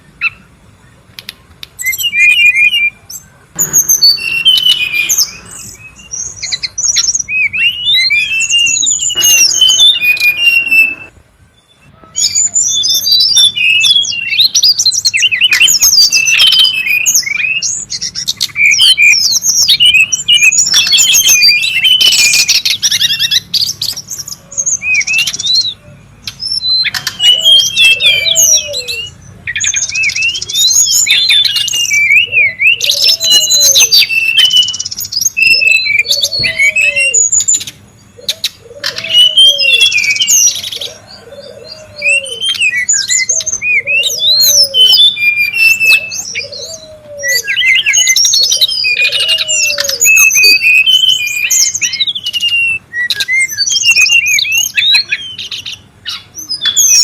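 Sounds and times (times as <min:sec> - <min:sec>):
bird chattering twitters and whistles: 0:00.0 - 0:57.0.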